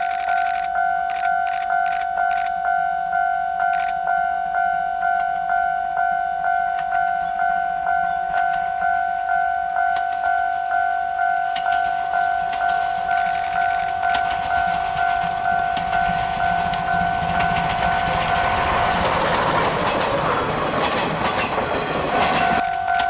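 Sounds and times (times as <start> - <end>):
level-crossing warning bell: 0.0 - 23.0
approaching train: 0.1 - 23.0.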